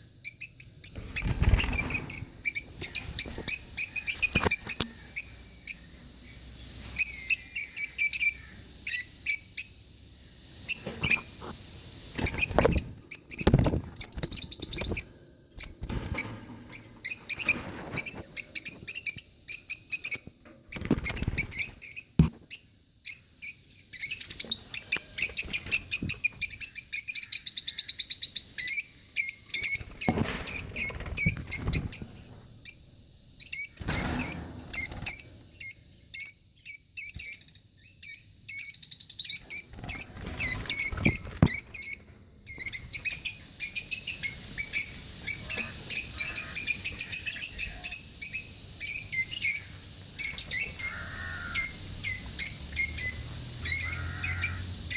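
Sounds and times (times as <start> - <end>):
lovebirds chirping: 0.0 - 11.4, 12.1 - 32.8, 33.4 - 54.9.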